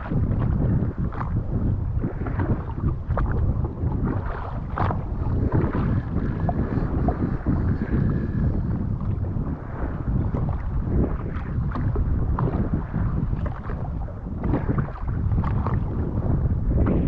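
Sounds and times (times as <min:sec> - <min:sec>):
water splashing against jet ski: 0:00.0 - 0:17.0
wind buffeting microphone: 0:00.0 - 0:17.0.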